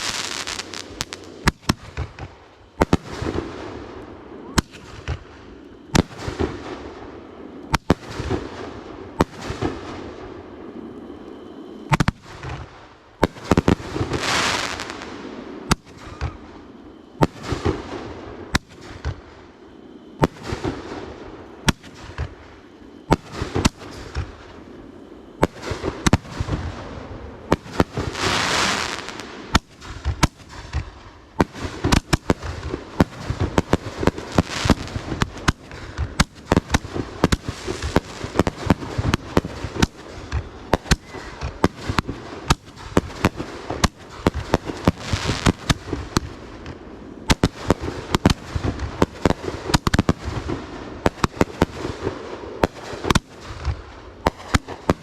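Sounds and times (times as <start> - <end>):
fireworks bursting with bangs: 0.0 - 11.0, 11.6 - 55.0
rushing hiss of fireworks: 0.0 - 55.0.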